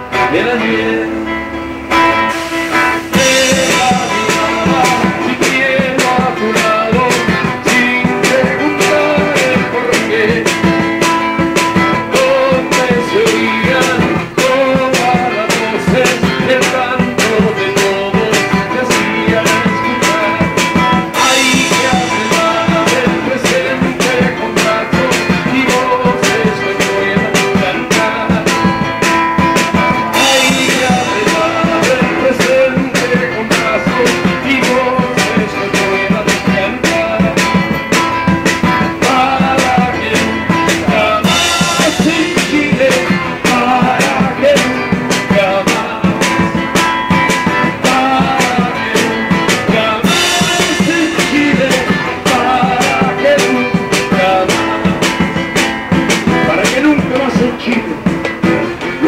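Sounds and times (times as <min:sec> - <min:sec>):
drum kit beat: 0:00.0 - 0:59.0
strummed acoustic guitar: 0:00.0 - 0:59.0.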